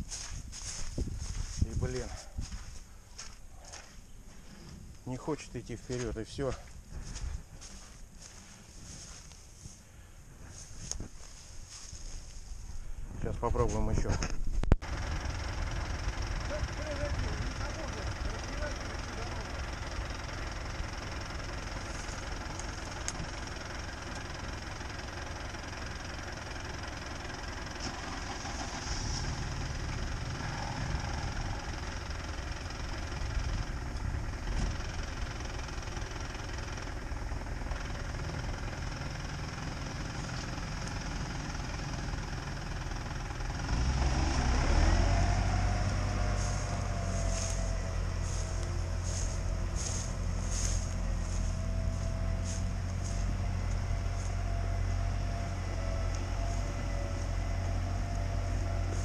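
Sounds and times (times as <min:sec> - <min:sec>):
car engine running: 0:00.0 - 0:09.8, 0:10.4 - 0:59.0
tractor diesel engine: 0:00.0 - 0:59.0.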